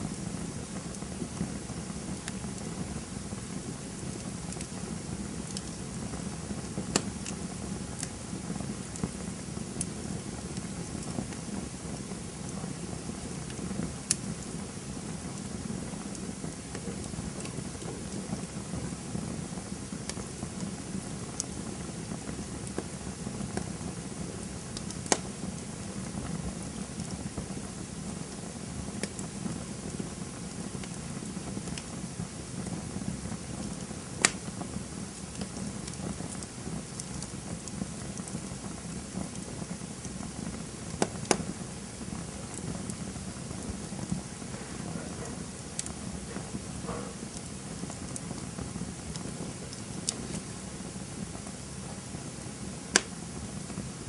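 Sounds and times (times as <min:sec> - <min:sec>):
fire crackles and pops: 0:00.0 - 0:54.0
low rush of flames: 0:00.0 - 0:54.0.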